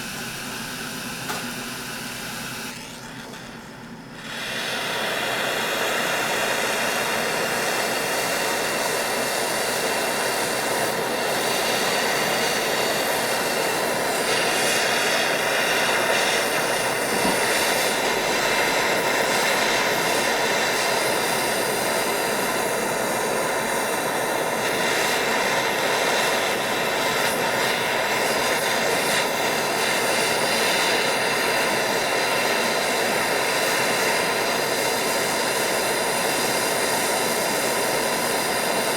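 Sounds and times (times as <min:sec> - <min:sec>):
blowtorch flame roaring: 0:00.0 - 0:38.9.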